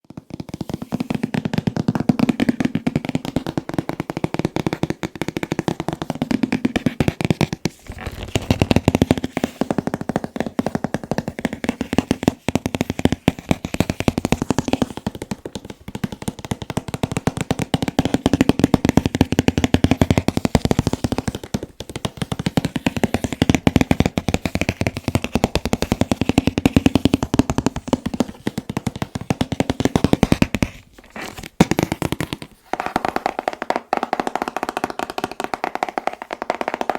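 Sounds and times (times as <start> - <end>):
fast tapping on packaging: 0.0 - 36.9.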